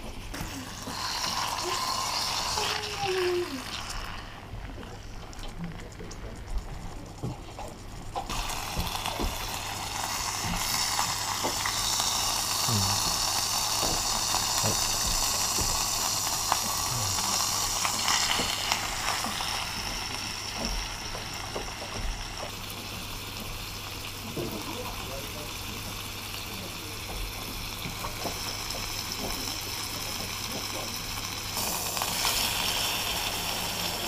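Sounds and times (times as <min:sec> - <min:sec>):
steak sizzling in a pan: 0:00.0 - 0:34.0.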